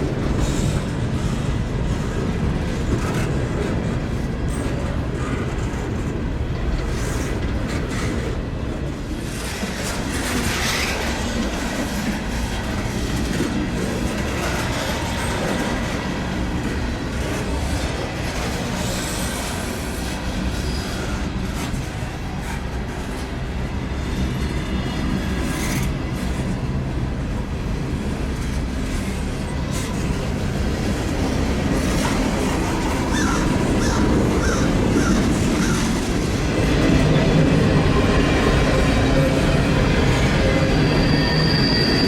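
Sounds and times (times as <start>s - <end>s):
freight train cars rumbling: 0.0s - 42.0s
train wheel squeals: 0.2s - 6.1s, 6.7s - 27.0s, 27.8s - 42.0s.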